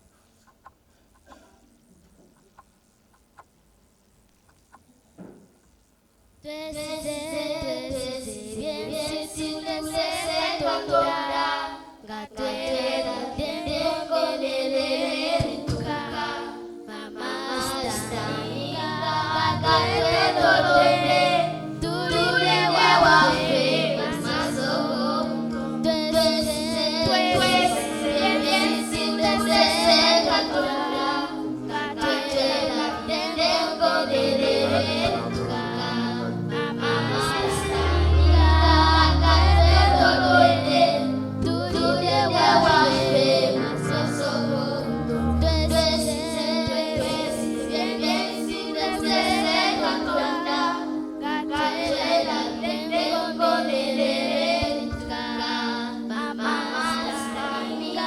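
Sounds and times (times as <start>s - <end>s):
children singing together: 6.5s - 58.0s.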